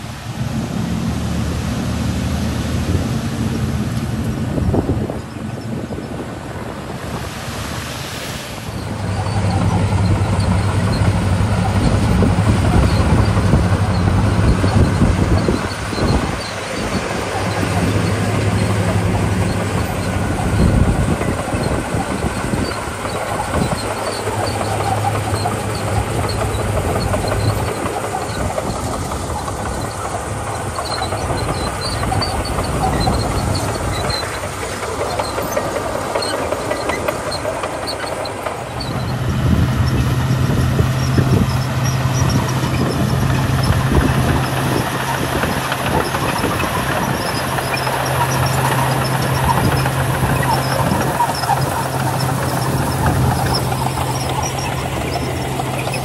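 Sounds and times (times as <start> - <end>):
bulldozer diesel engine under load: 0.0 - 56.0
bulldozer tracks clattering: 0.0 - 56.0.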